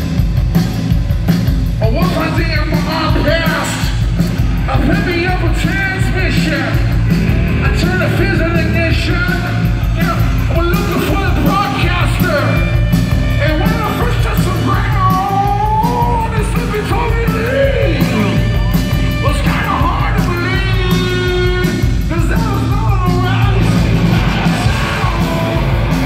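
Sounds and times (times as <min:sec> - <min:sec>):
live rock band playing: 0:00.0 - 0:26.0
person singing and shouting: 0:01.8 - 0:26.0.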